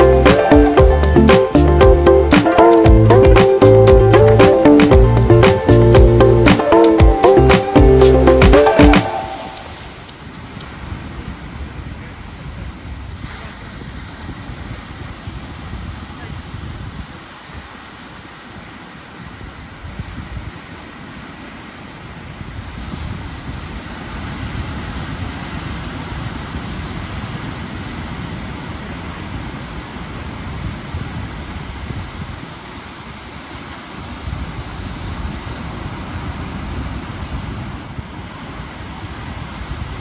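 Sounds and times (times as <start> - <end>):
ocean surf washing ashore: 0.0 - 40.0.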